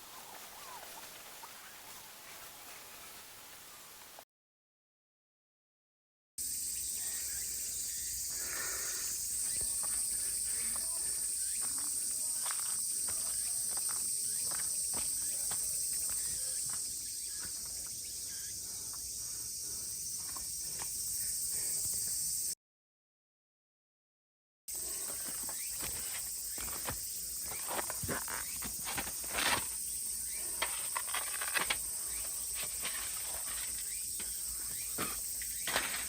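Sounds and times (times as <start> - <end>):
cicadas droning: 0.0 - 4.2, 6.4 - 22.6, 24.7 - 36.0.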